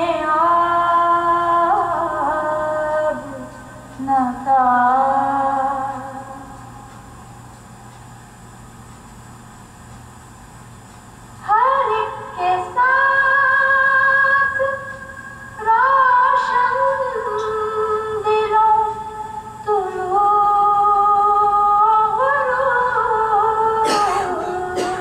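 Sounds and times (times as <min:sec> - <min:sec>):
woman singing unaccompanied: 0:00.0 - 0:06.6, 0:11.4 - 0:25.0.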